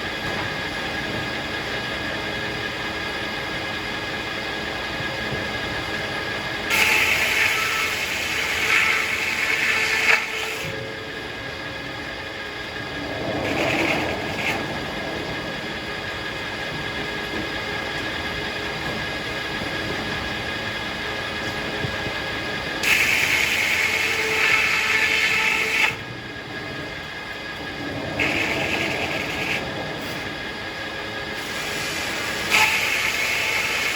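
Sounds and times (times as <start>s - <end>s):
sawmill machinery humming: 0.0s - 33.9s.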